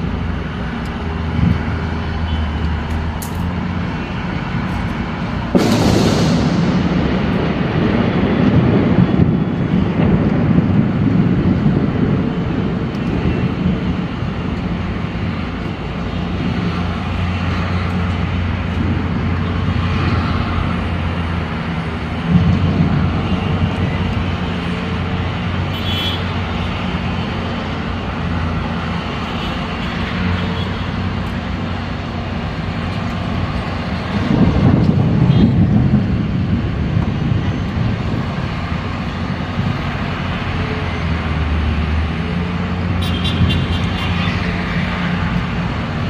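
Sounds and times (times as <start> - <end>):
vehicle engine and road noise: 0.0 - 46.0.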